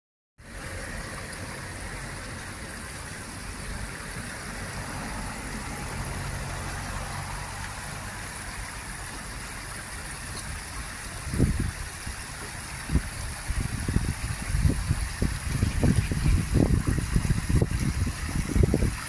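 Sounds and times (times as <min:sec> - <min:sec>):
stream water rushing: 0:00.4 - 0:19.0.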